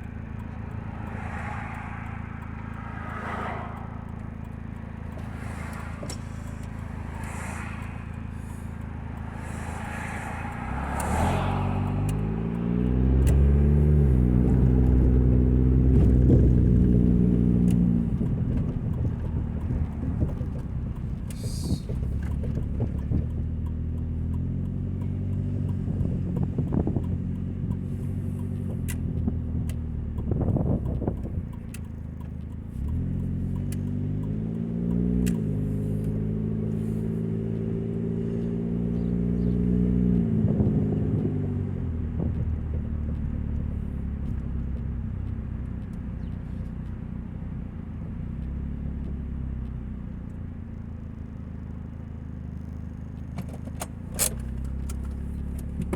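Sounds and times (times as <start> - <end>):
car engine with exhaust drone: 0.0 - 55.9.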